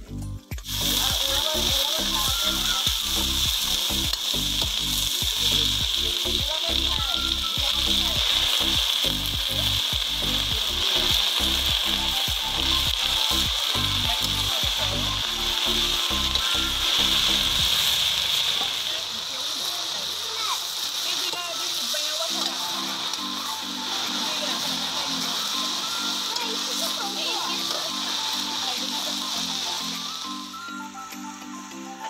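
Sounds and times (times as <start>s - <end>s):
greens sizzling in hot oil: 0.1s - 32.0s
ladle stirring in pan: 0.6s - 30.2s.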